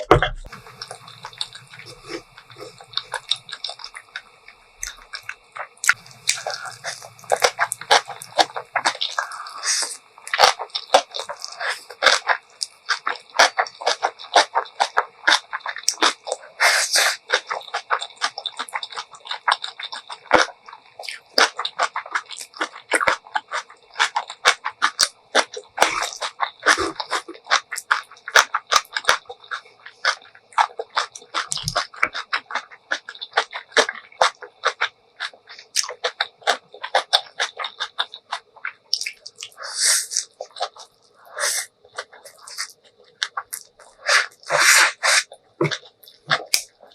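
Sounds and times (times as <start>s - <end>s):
wet chewing and crunching: 0.0s - 46.9s.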